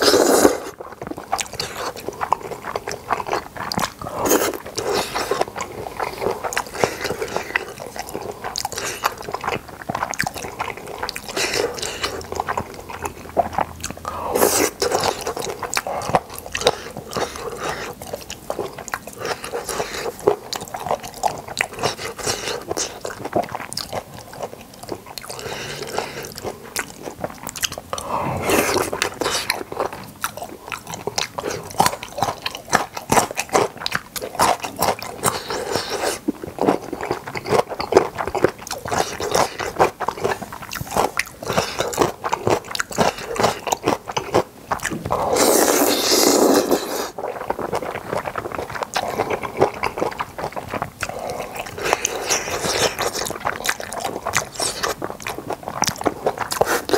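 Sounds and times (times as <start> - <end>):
wet chewing mouth sounds: 0.0 - 56.9.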